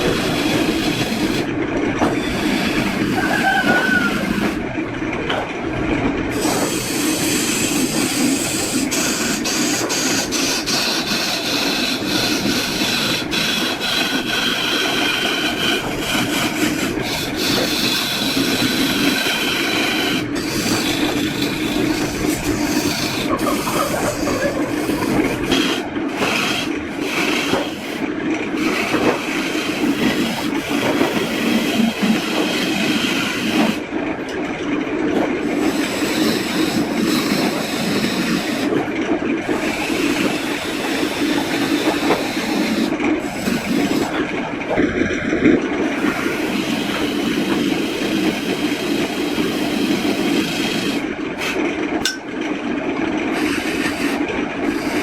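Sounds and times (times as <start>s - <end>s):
tool grinding wood: 0.0s - 4.6s, 6.3s - 33.8s, 35.4s - 38.7s, 39.4s - 44.8s, 45.8s - 52.2s, 53.3s - 55.0s.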